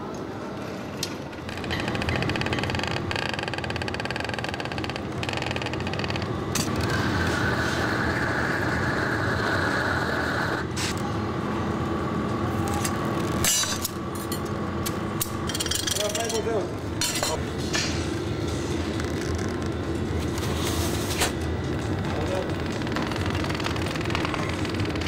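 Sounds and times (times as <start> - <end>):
gas torch and furnace roaring: 0.0 - 25.0.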